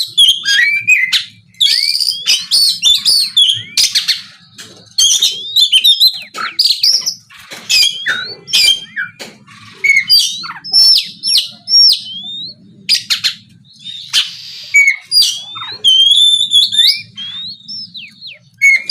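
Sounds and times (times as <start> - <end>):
bird singing whistled song: 0.0 - 18.9
harsh bird calls: 0.0 - 18.9.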